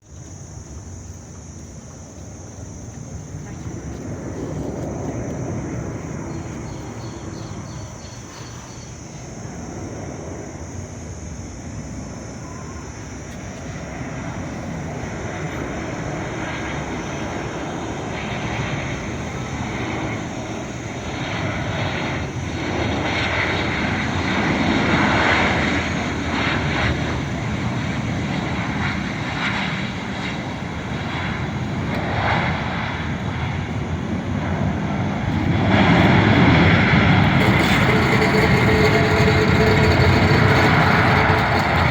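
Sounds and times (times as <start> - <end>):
airplane engines running: 0.0 - 41.9.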